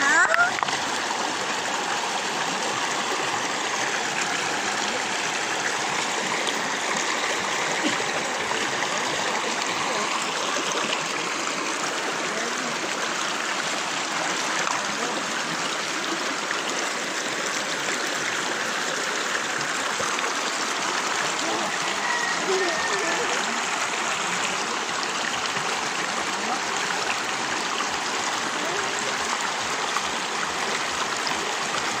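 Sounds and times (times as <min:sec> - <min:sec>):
stream rushing over stones: 0:00.0 - 0:32.0.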